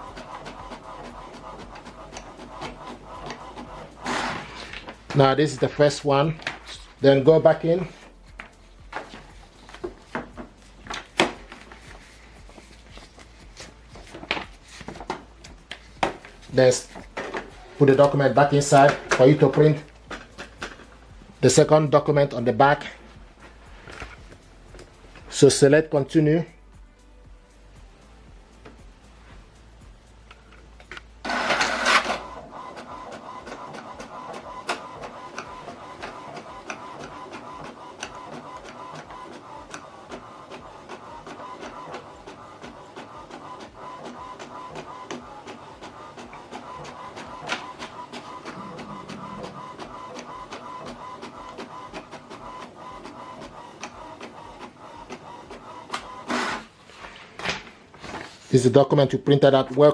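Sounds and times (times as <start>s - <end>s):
printer whirring paper feed: 0.0s - 26.2s, 30.3s - 58.6s
printer mechanism humming: 0.0s - 26.7s, 27.4s - 58.5s
print carriage ticks: 0.0s - 56.7s.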